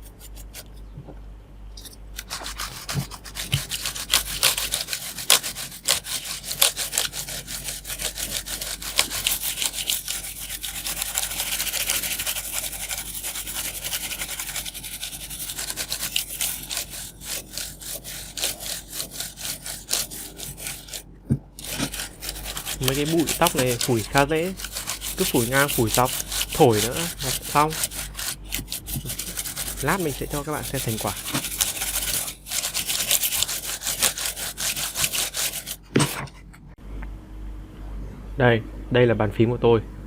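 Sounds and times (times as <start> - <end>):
paintbrush scrubbing keyboard: 0.0 - 0.8, 2.2 - 36.3.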